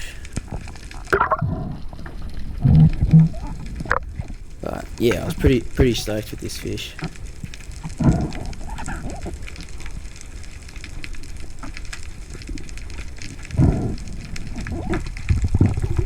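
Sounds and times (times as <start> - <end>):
underwater crackle of tiny clicks: 0.0 - 16.0.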